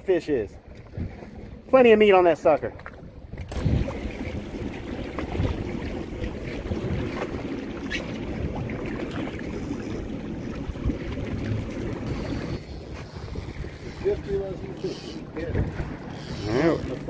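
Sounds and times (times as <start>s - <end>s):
outboard motor drone: 0.0s - 17.0s
water slapping along a hull: 0.0s - 17.0s
wind buffeting microphone: 2.9s - 17.0s.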